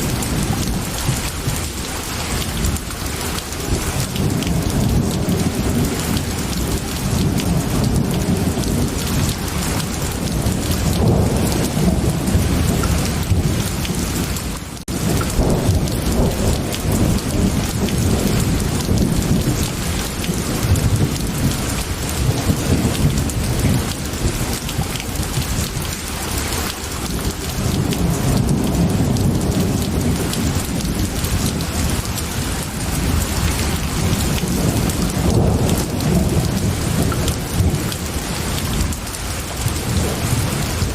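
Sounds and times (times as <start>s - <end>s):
heavy rain: 0.0s - 40.9s
low rumble of thunder: 0.0s - 40.9s.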